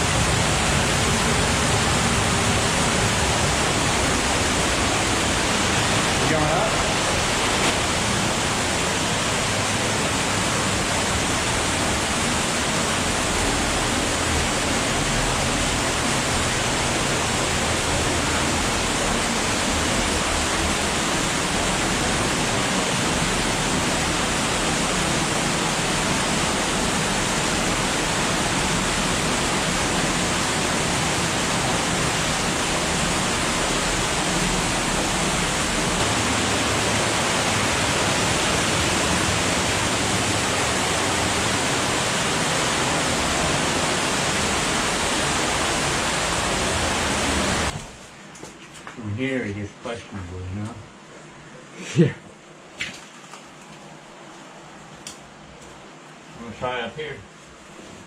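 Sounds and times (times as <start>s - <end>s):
cave stream rushing water: 0.0s - 58.0s.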